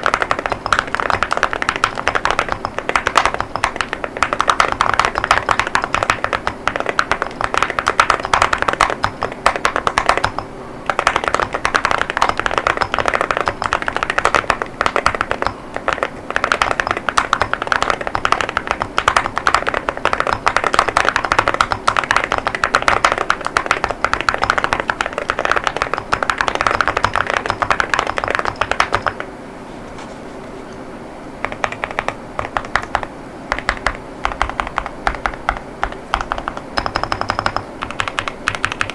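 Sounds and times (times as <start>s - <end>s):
mechanical keyboard typing: 0.0s - 29.3s, 31.4s - 38.9s.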